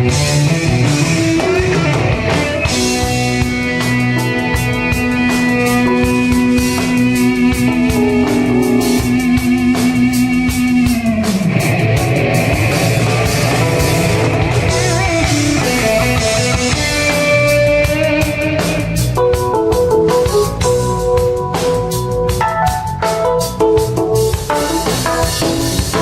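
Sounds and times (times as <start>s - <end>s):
drum and cymbal hits: 0.0s - 26.0s
jazz-rock band playing: 0.0s - 26.0s.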